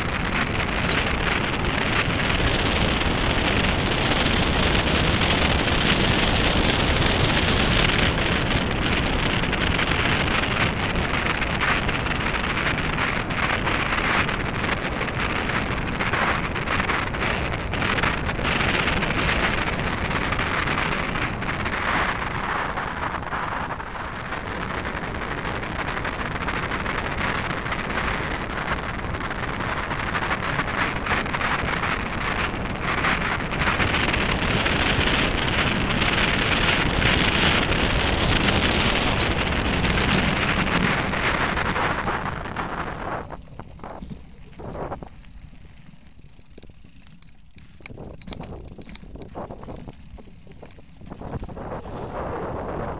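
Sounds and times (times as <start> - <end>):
bike tyres on gravel: 0.0 - 52.9
wind buffeting microphone: 0.0 - 52.9.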